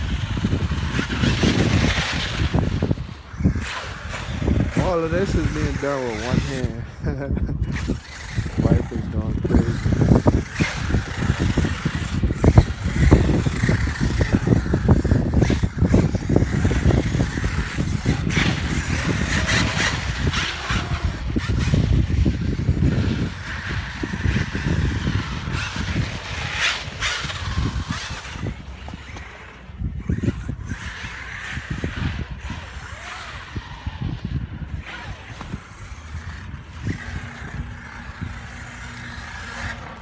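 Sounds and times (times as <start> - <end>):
electric rc truck motors whining: 0.0 - 40.0
wind buffeting microphone: 0.0 - 40.0.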